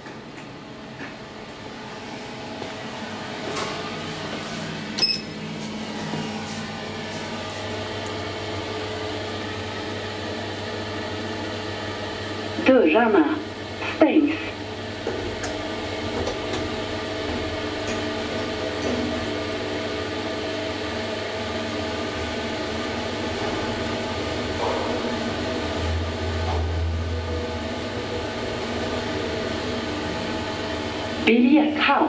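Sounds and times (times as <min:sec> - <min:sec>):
elevator drive hum: 0:00.0 - 0:32.0.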